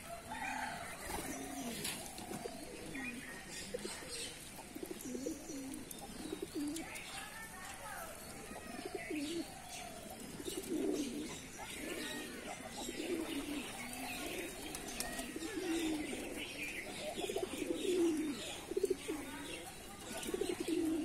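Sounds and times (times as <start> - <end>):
pigeons cooing: 0.0 - 7.1, 8.1 - 21.0.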